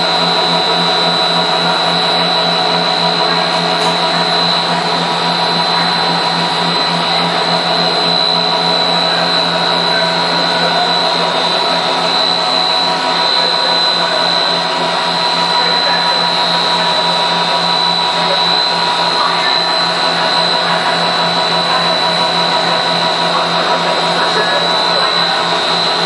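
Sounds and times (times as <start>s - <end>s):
dense mechanical noise: 0.0s - 26.0s
electric motor hum: 0.0s - 26.0s
high machine whine: 0.0s - 26.0s.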